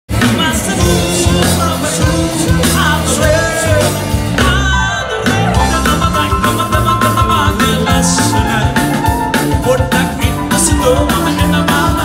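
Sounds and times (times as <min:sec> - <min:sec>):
live rock and roll band: 0:00.1 - 0:12.0
person singing: 0:00.2 - 0:12.0.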